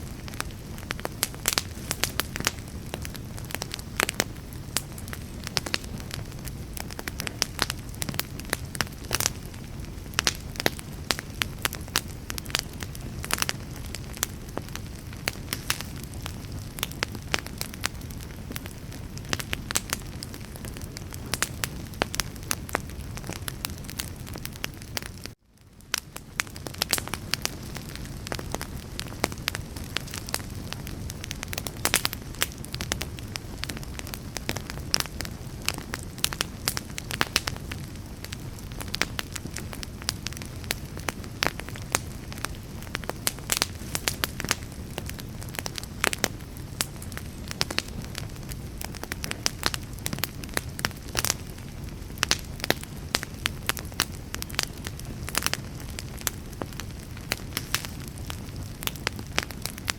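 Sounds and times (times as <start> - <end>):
fire popping and snapping: 0.0 - 59.9
low rumble of burning: 0.0 - 59.9
wood fire crackling: 0.0 - 59.9.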